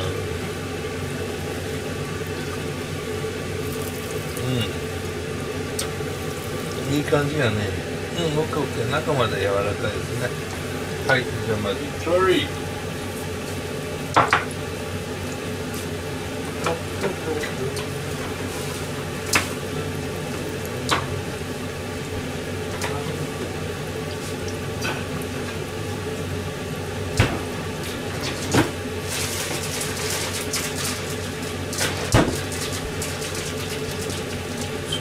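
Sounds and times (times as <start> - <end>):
oil popping: 0.0 - 7.1, 9.7 - 35.0
food deep-frying in oil: 0.0 - 35.0.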